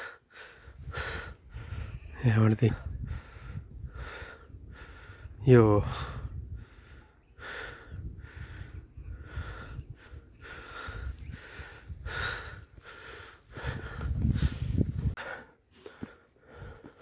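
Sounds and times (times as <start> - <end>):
person breathing hard: 0.0 - 2.0, 2.7 - 17.0.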